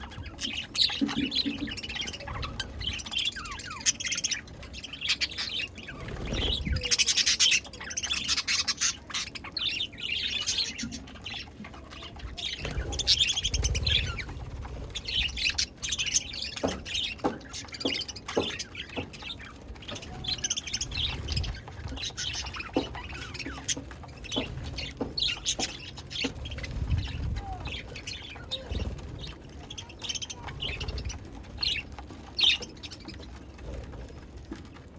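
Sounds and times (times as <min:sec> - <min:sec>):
budgerigars chirping: 0:00.0 - 0:33.3.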